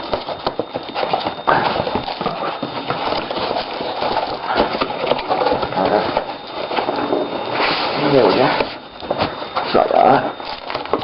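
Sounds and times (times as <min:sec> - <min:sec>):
cardboard rustling and crinkling: 0:00.0 - 0:11.0.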